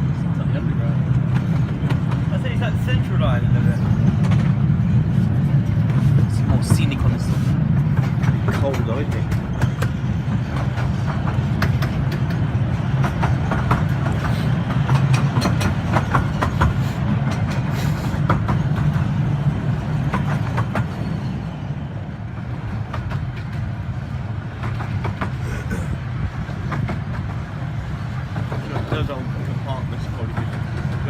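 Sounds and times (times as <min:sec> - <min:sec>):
train clicks and rattles: 0:00.0 - 0:31.0
train wheels rumbling on rails: 0:00.0 - 0:31.0.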